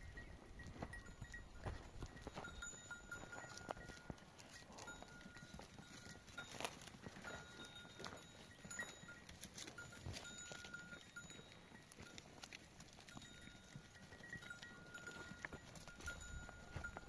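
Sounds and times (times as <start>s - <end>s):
hoof clicks: 0.0s - 17.0s
livestock bell tinkling: 0.0s - 17.0s.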